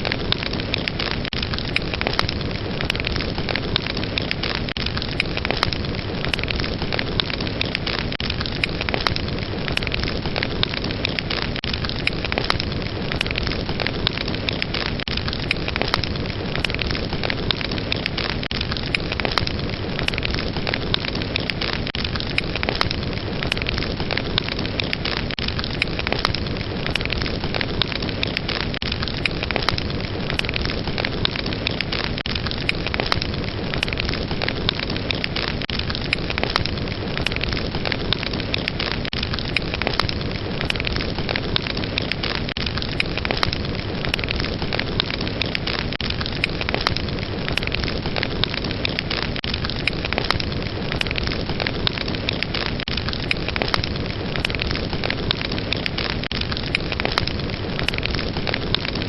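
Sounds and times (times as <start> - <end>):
fire burning with crackles: 0.0 - 59.0.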